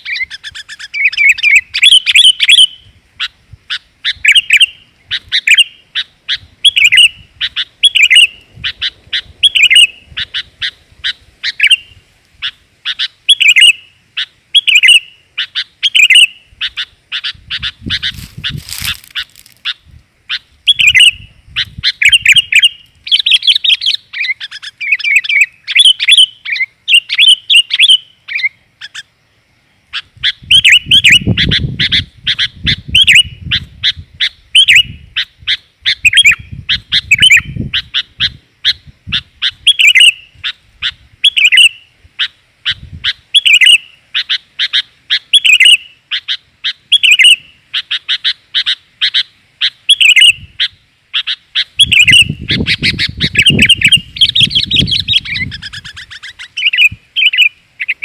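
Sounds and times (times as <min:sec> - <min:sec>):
bird rapid sharp chirps: 0:00.0 - 0:29.1, 0:29.9 - 0:58.0.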